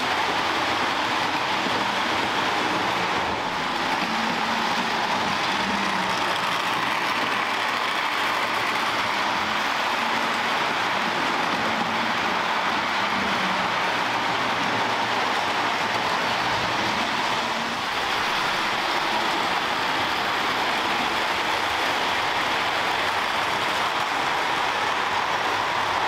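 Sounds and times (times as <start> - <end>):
model trains rolling on rails: 0.0 - 26.0.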